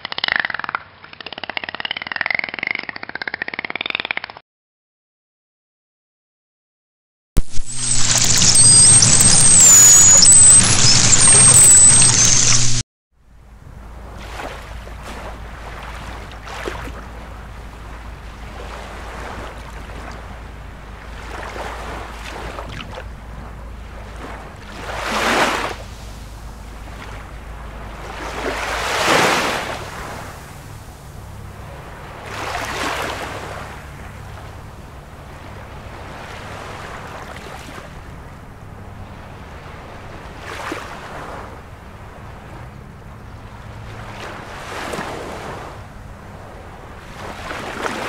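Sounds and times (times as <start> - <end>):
low hum: 7.4 - 47.7
sea water rushing: 7.5 - 12.8, 13.7 - 48.0.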